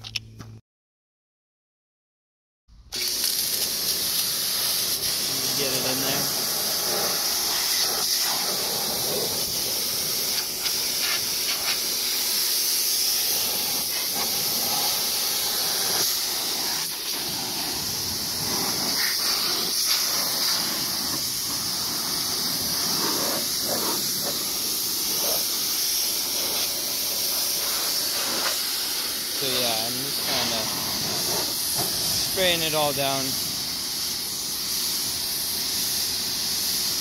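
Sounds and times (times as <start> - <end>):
pressure washer spraying: 2.9 - 37.0.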